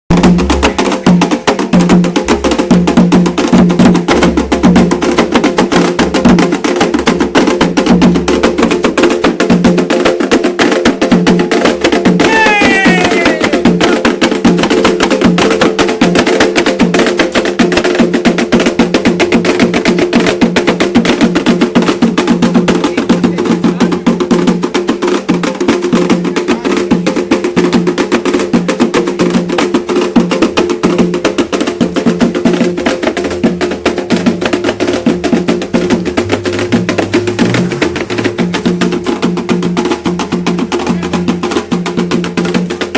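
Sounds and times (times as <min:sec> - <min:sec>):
fast drum and wood-block percussion: 0:00.1 - 0:42.9.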